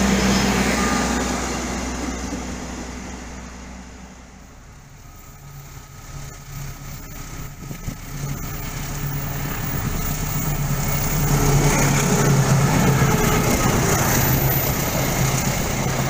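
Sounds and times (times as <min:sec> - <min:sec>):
locomotive diesel engine humming: 0:00.0 - 0:16.0.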